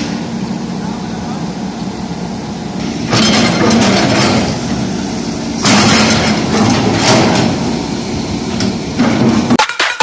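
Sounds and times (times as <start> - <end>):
backhoe engine running: 0.0 - 9.6.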